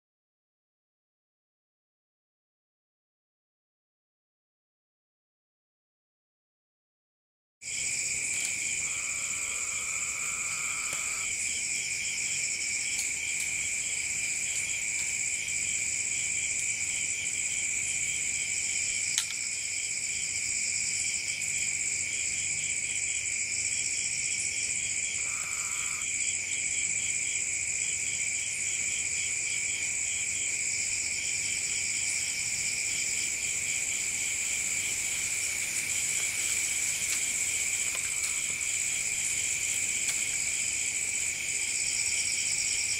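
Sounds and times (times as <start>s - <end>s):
insects trilling: 7.7s - 42.9s
low buzzing insect call: 7.7s - 42.9s.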